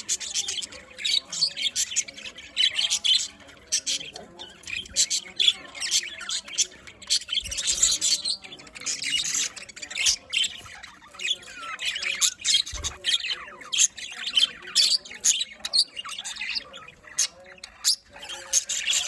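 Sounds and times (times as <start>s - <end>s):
budgerigars chirping and squawking: 0.0s - 19.0s.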